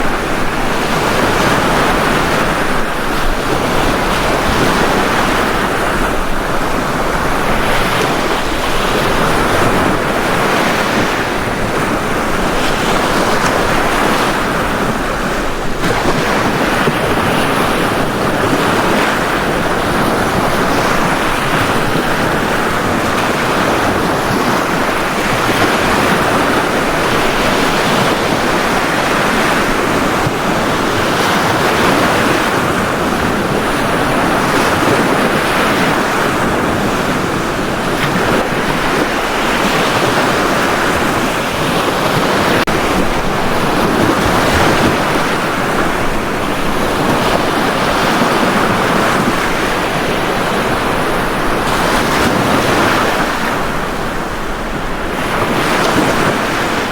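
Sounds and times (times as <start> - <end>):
ocean waves breaking on beach: 0.0 - 56.9
wind noise on microphone: 0.0 - 56.9.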